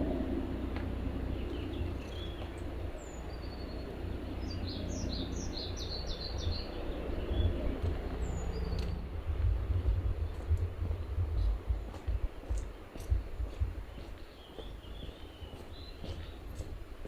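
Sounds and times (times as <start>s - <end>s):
steady low rumble: 0.0s - 14.0s
songbird singing: 0.0s - 17.0s.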